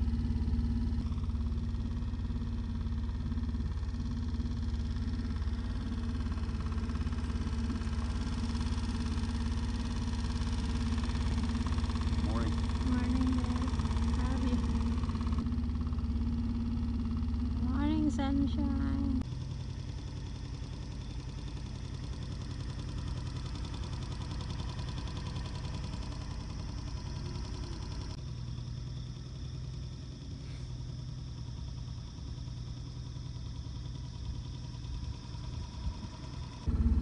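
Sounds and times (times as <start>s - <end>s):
small boat motor running: 0.0s - 37.0s.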